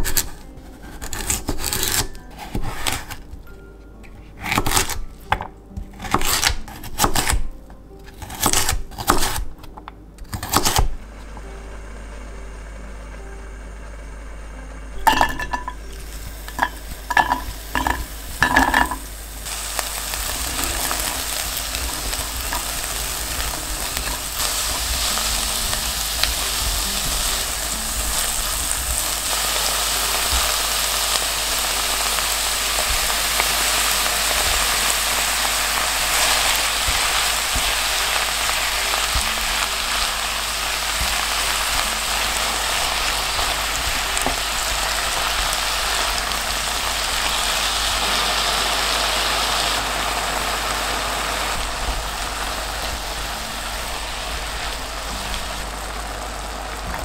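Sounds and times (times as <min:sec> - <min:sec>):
onions sizzling: 0:00.0 - 0:57.0.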